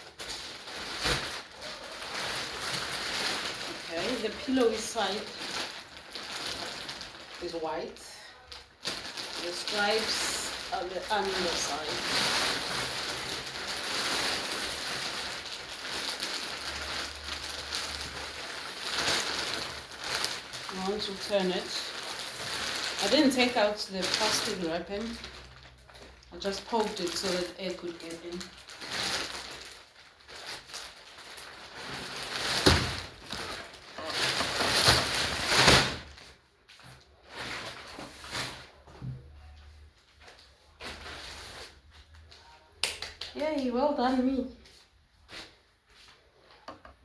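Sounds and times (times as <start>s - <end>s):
plastic wrapping crackling: 0.0s - 46.7s.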